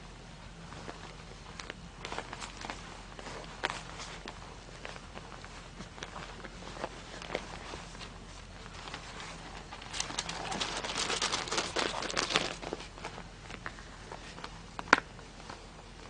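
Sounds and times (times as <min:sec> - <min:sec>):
newspaper crackling and rustling: 0:00.6 - 0:15.2.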